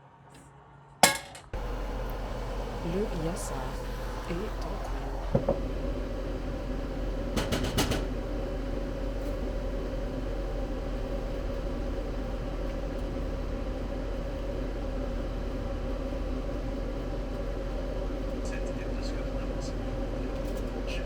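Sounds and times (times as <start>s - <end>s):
kitchen fan humming: 1.0s - 21.0s.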